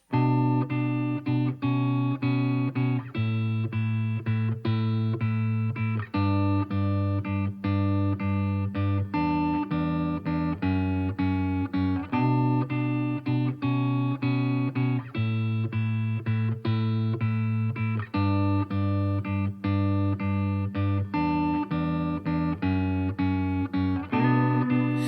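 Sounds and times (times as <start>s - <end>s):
guitar chords strummed: 0.1s - 25.0s.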